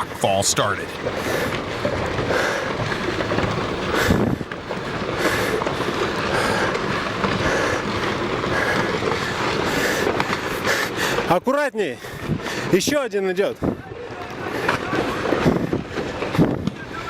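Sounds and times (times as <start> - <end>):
rocks tumbling and clattering: 0.0 - 17.0.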